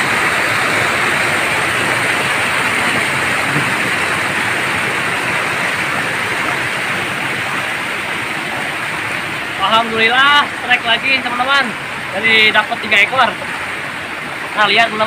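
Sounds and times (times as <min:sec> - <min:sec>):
stream water rushing over weir: 0:00.0 - 0:15.0.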